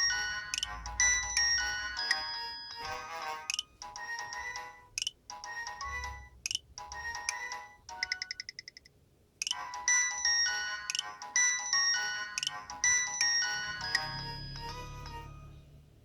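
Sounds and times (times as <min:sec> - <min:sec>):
polyphonic ringtone melody: 0:00.0 - 0:08.8, 0:09.4 - 0:15.8.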